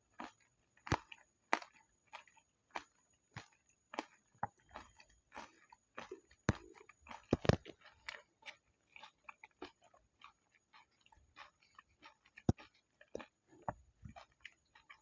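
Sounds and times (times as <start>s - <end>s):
crunchy food chewing: 0.0s - 15.0s.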